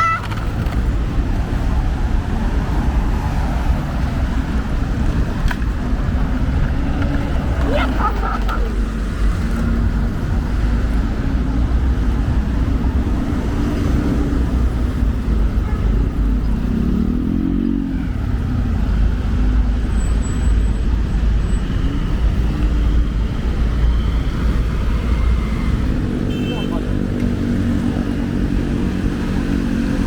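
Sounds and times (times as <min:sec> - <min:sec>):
passing cars rumbling: 0:00.0 - 0:30.0.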